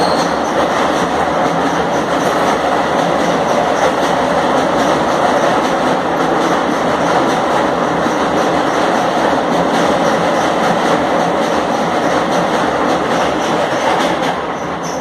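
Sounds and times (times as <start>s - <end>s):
train wheels rumbling over bridge: 0.0s - 15.0s.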